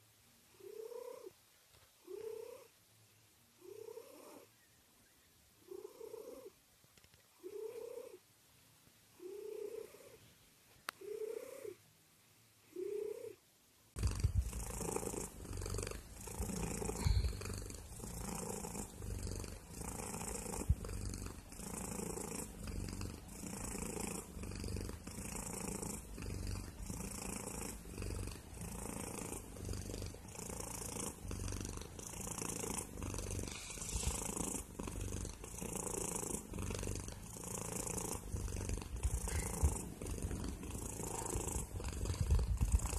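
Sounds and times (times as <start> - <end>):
cat purring softly: 0.0 - 1.4, 2.0 - 2.8, 3.6 - 4.6, 5.6 - 6.6, 7.4 - 8.3, 9.2 - 11.8, 12.7 - 13.4, 14.0 - 42.9
loud continuous cat purr: 0.0 - 1.4, 2.0 - 2.8, 3.6 - 4.6, 5.6 - 6.6, 7.3 - 8.3, 9.1 - 11.9, 12.6 - 42.9.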